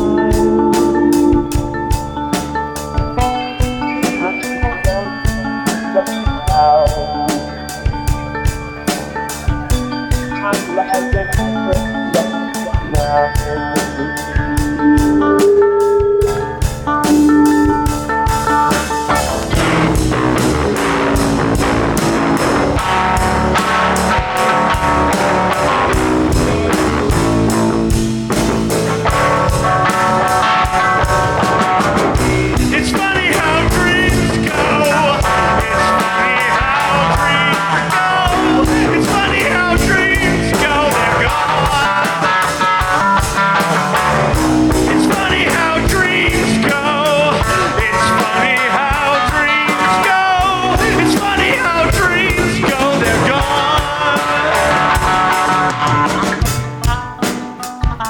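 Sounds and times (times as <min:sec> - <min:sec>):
bass and drums: 0:00.0 - 0:58.0
lead guitar with bent notes: 0:00.0 - 0:58.0.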